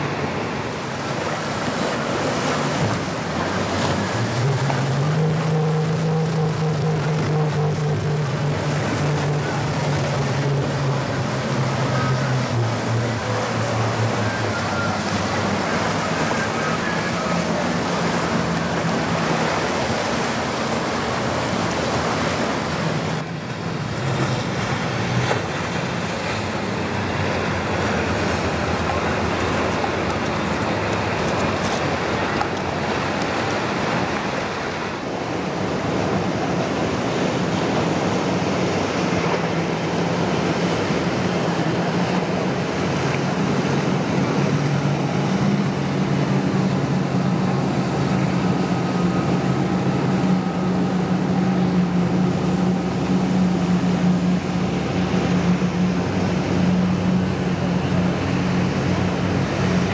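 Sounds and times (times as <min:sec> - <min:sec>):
outboard engines droning: 0:00.0 - 0:59.9
water spray and waves splashing: 0:00.0 - 0:59.9.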